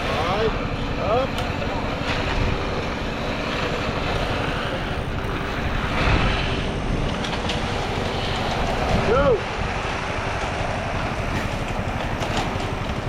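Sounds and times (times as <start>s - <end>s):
engine running: 0.0s - 13.0s
wind buffeting microphone: 0.0s - 13.0s.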